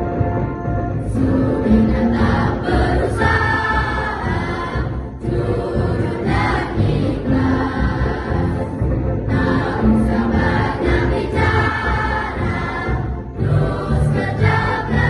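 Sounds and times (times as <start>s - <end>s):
children's choir singing: 1.0s - 15.0s.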